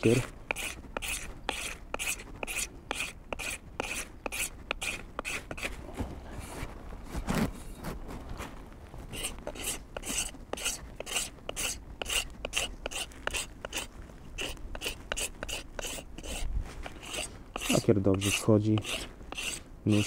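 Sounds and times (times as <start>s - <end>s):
knife scraping wooden handle: 0.0s - 5.8s, 9.1s - 20.0s.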